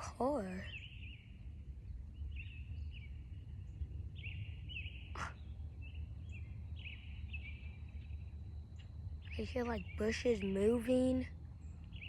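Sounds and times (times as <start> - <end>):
bird chirping: 0.2 - 12.0.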